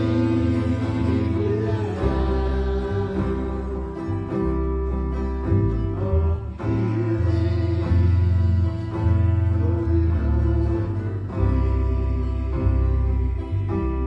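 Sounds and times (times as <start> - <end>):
person singing: 0.0 - 14.0
slow worship music: 0.0 - 14.0.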